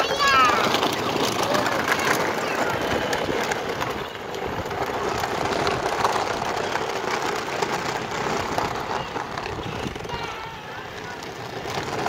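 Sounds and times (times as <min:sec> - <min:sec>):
plastic wheels clicking and rattling: 0:00.0 - 0:12.0.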